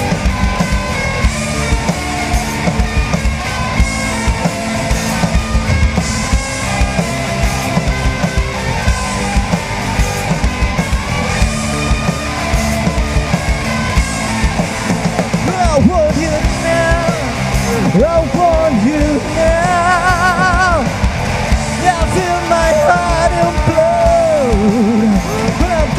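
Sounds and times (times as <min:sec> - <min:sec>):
rock band instrumental: 0:00.0 - 0:25.9.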